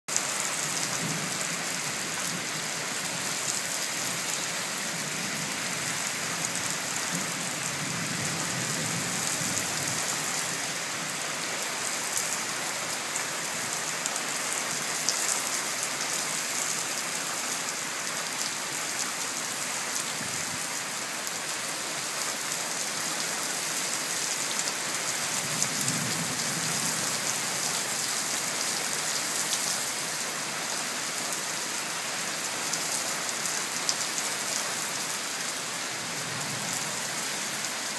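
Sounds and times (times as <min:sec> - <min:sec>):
heavy rain pouring: 0:00.1 - 0:37.9.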